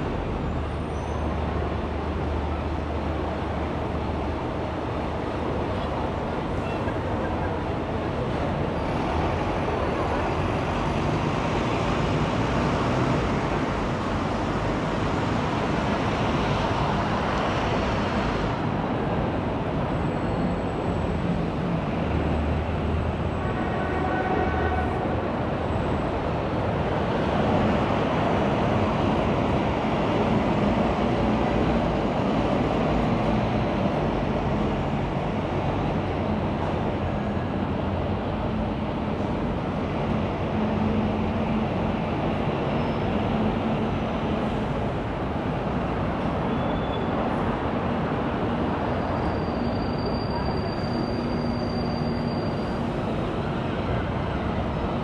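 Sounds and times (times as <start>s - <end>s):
road and traffic noise: 0.0s - 55.0s.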